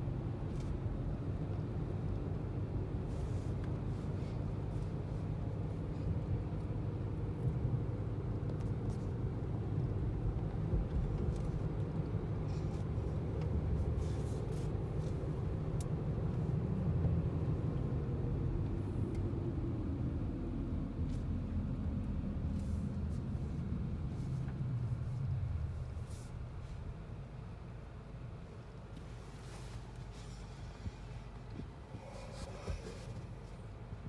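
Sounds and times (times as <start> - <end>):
car engine and tyre noise: 0.0 - 34.0.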